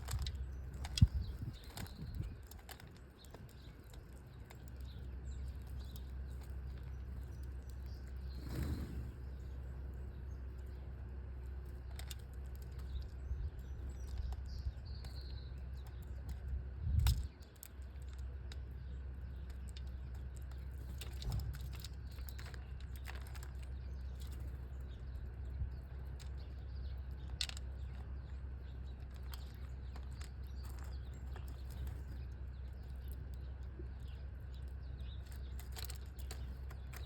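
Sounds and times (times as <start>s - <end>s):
small birds chirping: 0.0s - 37.0s
steady low rumble: 0.0s - 37.0s.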